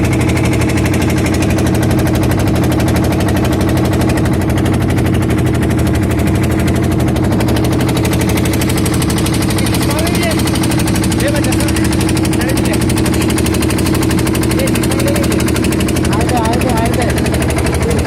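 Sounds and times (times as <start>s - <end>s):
engine chugging: 0.0s - 18.0s.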